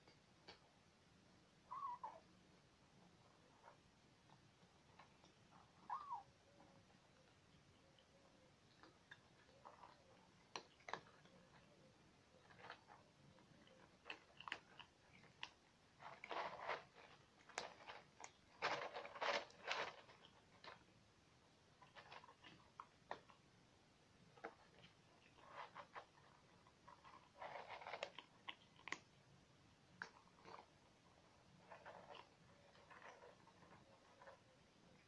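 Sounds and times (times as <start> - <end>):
cats crunching and chewing: 2.8 - 35.0.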